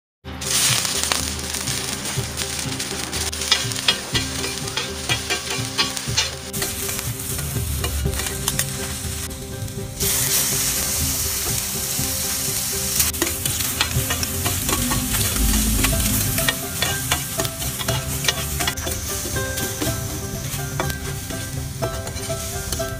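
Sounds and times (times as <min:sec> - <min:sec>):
seafood sizzling in hot oil: 0:00.3 - 0:22.9
metal spatula scraping griddle: 0:01.8 - 0:11.0, 0:13.0 - 0:22.9.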